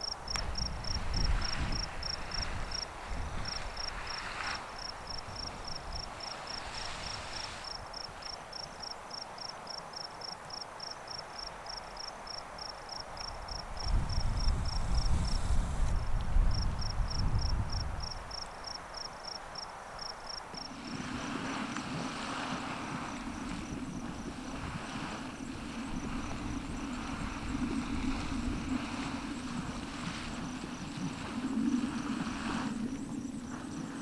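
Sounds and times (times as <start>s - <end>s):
insect chirping: 0.0s - 34.0s
steady hiss: 0.0s - 34.0s.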